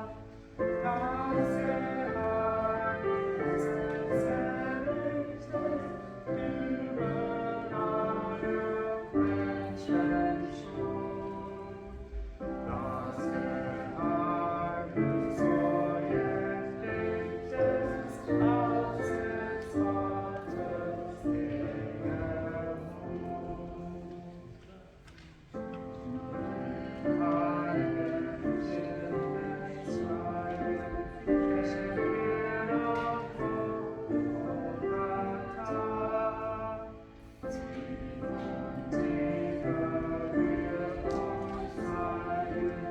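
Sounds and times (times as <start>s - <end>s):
church choir singing: 0.0s - 42.9s.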